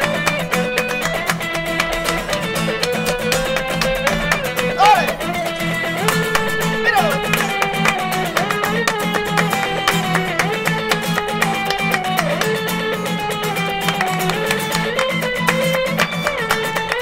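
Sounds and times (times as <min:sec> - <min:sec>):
acoustic guitars strumming: 0:00.0 - 0:17.0
hand clapping: 0:00.0 - 0:17.0.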